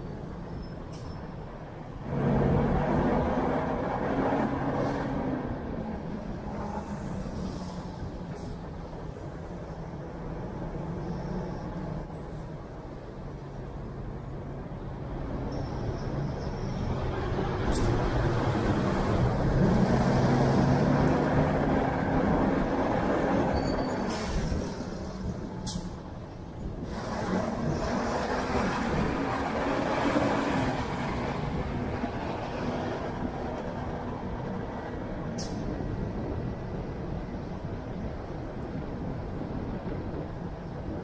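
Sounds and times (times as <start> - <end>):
tyre and road noise: 0.0 - 41.0.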